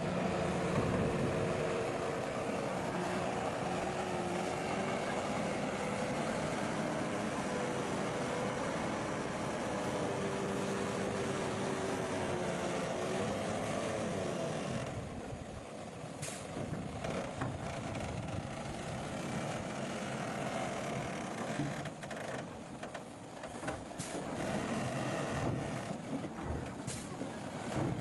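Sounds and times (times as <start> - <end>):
heavy machinery engine drone: 0.0 - 28.0.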